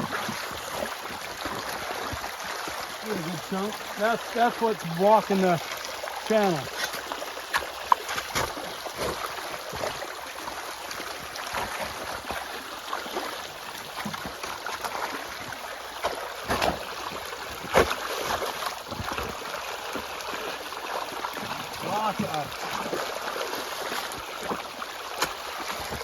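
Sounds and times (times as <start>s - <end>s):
water running down a ditch: 0.0s - 26.0s.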